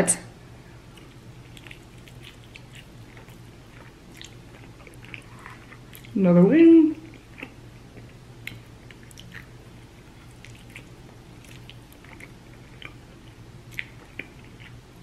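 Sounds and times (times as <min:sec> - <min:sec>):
faint low hum: 0:00.0 - 0:15.0
chewing with wet mouth clicks: 0:00.9 - 0:06.2, 0:07.0 - 0:09.5, 0:10.1 - 0:14.8.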